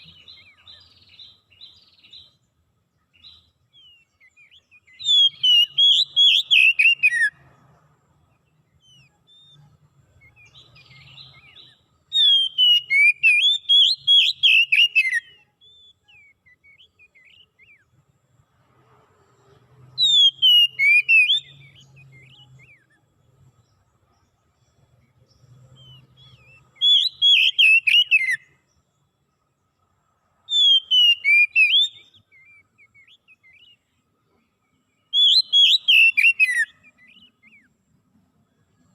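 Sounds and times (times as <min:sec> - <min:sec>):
bird twittering: 0:00.0 - 0:07.4, 0:08.3 - 0:17.9, 0:20.0 - 0:23.0, 0:23.6 - 0:29.1, 0:30.5 - 0:34.0, 0:35.0 - 0:37.7
songbird singing: 0:00.0 - 0:38.9.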